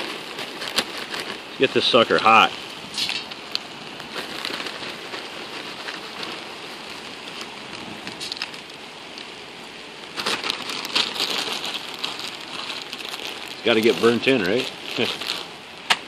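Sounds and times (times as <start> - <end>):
fire crackling and popping: 0.0 - 16.0
rush of flame: 0.0 - 16.0.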